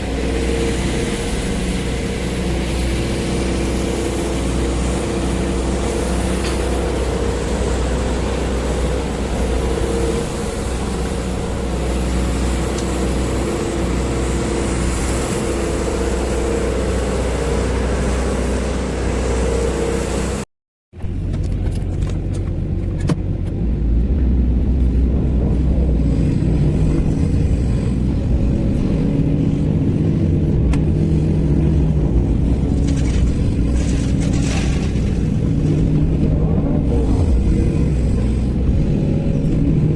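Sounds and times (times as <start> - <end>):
excavator diesel engine running: 0.0 - 20.4, 21.0 - 39.9.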